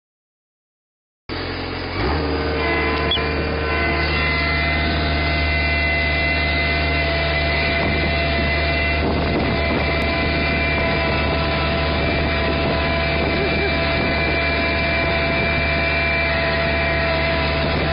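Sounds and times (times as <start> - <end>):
tractor engine droning: 1.3 - 17.9.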